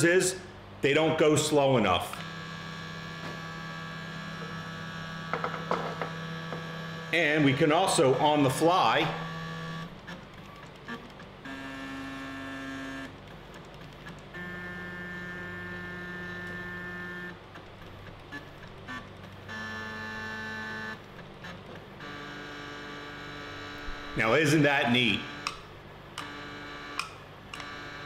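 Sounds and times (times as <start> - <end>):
stepper motor whining: 2.1 - 13.2, 14.0 - 28.0.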